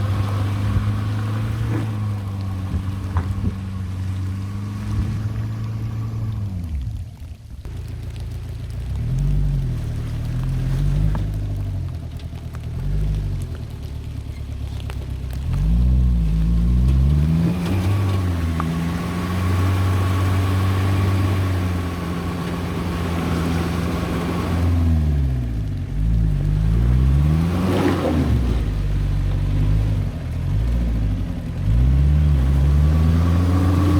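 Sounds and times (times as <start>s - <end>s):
diesel engine revving: 0.0s - 33.9s.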